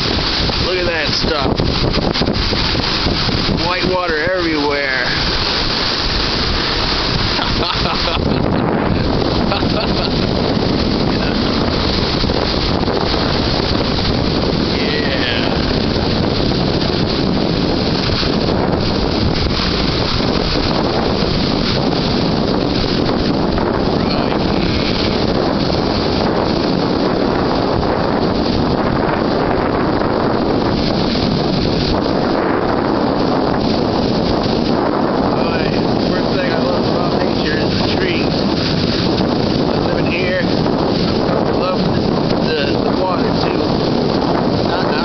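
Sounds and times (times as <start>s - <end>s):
waves breaking on beach: 0.0s - 45.0s
wind buffeting microphone: 0.0s - 45.0s.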